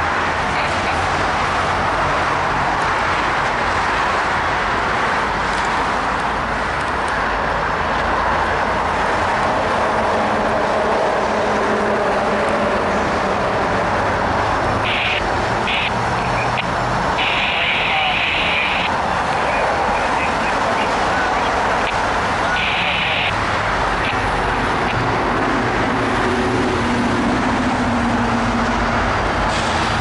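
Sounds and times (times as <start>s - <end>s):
diesel locomotive engines droning: 0.0s - 30.0s
traffic noise: 0.0s - 30.0s.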